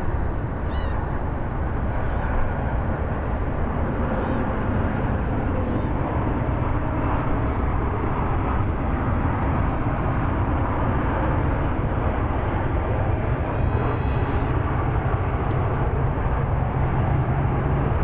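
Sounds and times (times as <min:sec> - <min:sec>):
jet engine rush: 0:00.0 - 0:18.0.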